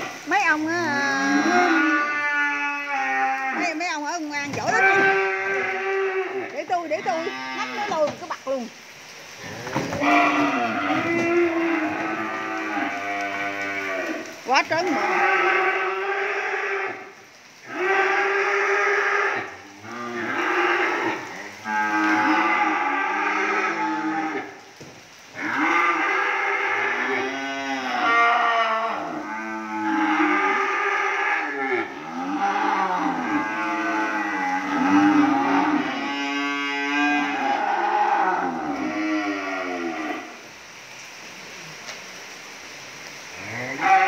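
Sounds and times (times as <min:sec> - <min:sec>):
cattle mooing: 0:00.0 - 0:08.2, 0:09.4 - 0:24.5, 0:25.4 - 0:40.4, 0:43.4 - 0:44.0.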